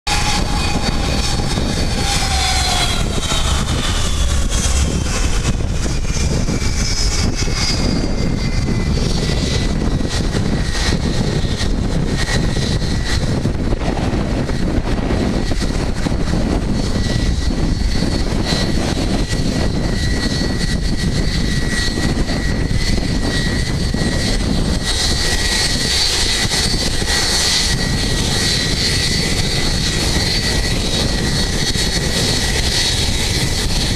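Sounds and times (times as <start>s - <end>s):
high jet engine whine: 0.0s - 33.9s
jet engines roaring: 0.0s - 33.9s.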